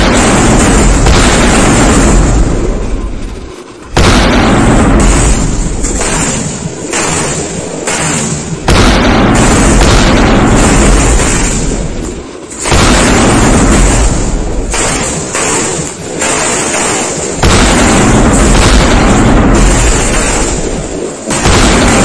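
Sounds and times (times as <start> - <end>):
giant firecracker booms: 0.0 - 22.0
loud rumbling decay: 0.0 - 22.0.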